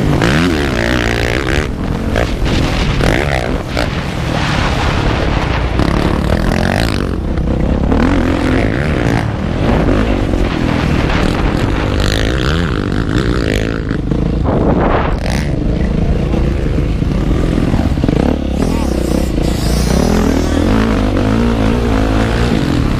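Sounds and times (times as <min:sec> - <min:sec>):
motorcycle engine revving: 0:00.0 - 0:22.9
rough noisy rush: 0:00.0 - 0:22.9.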